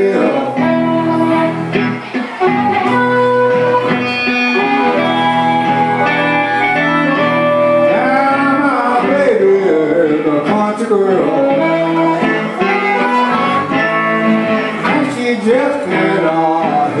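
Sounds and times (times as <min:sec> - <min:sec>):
blues guitar picking: 0:00.0 - 0:17.0
harmonica notes bending: 0:00.0 - 0:17.0.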